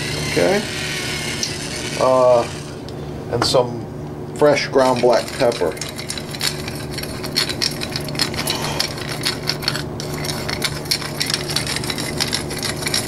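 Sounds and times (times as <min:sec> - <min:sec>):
pepper mill grinding: 0:00.0 - 0:02.8, 0:04.5 - 0:13.0.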